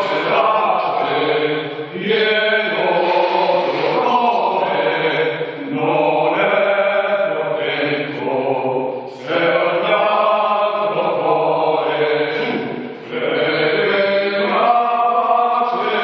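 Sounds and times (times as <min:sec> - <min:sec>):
voices chanting long notes: 0:00.0 - 0:16.0.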